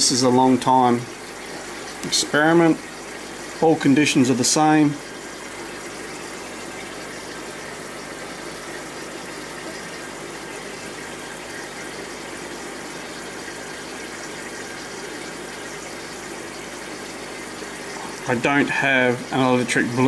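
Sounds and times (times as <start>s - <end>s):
aquarium filter bubbling: 0.0s - 20.0s.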